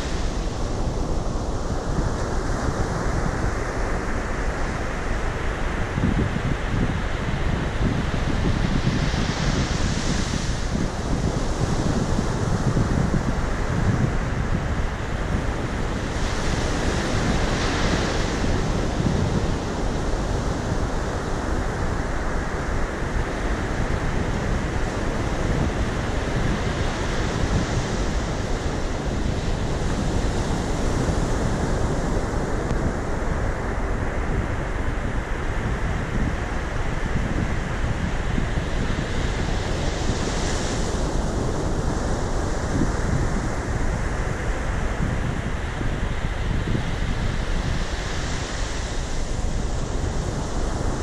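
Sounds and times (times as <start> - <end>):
ocean surf on a beach: 0.0 - 51.0.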